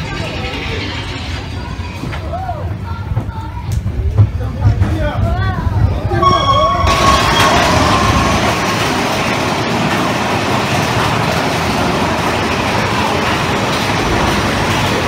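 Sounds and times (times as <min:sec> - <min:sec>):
roller coaster cars clattering: 0:00.0 - 0:15.0.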